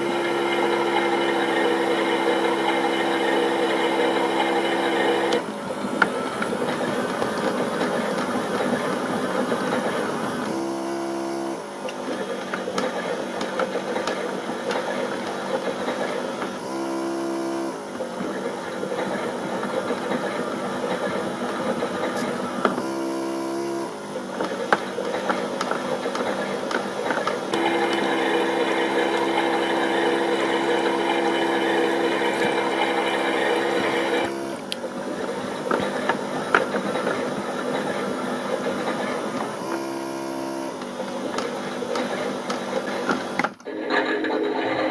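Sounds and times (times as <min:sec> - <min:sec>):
toy washing machine motor whirring: 0:00.0 - 0:44.9.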